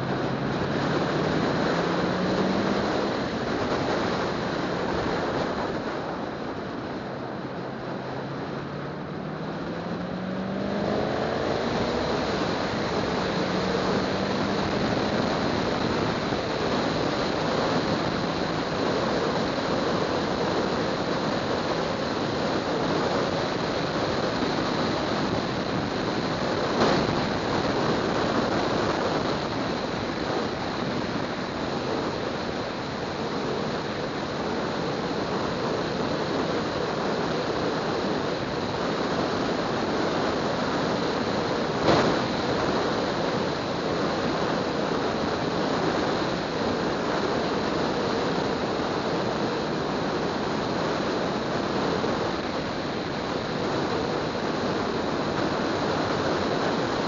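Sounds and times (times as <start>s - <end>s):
wind and road noise from car: 0.0s - 57.0s.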